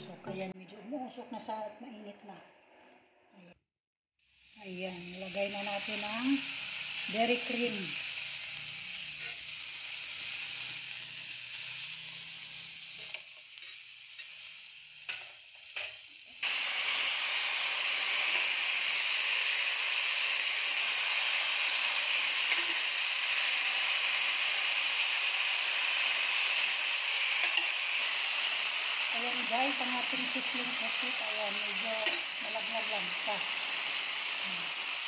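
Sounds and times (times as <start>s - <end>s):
food sizzling on a hot pan: 4.2s - 35.0s.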